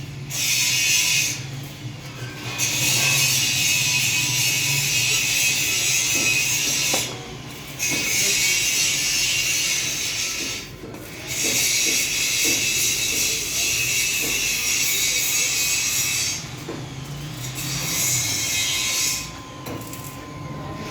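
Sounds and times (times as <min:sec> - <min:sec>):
arc welding crackle: 0:00.0 - 0:01.8, 0:02.4 - 0:20.9.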